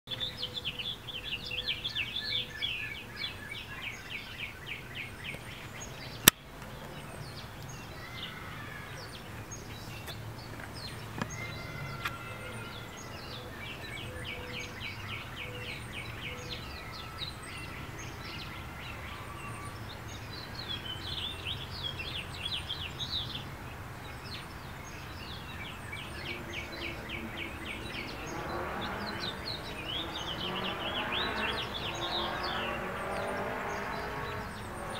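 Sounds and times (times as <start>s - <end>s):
songbirds chirping trills: 0.1s - 34.9s.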